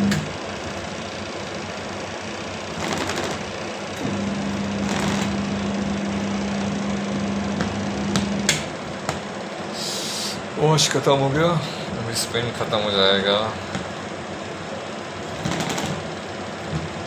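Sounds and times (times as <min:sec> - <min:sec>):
washing machine motor humming: 0:00.0 - 0:09.7, 0:10.4 - 0:17.0.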